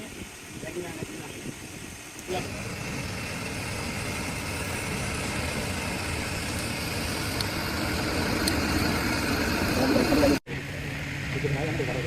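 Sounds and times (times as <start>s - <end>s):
heavy machinery rumbling: 2.2s - 12.0s.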